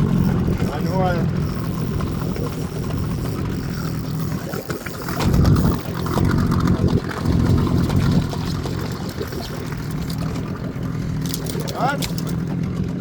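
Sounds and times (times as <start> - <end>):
boat motor rumbling: 0.0 - 13.0.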